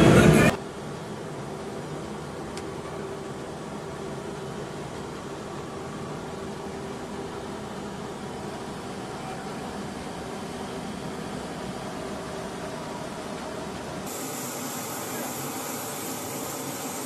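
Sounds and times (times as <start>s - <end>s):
hovercraft engines droning: 0.0s - 17.0s.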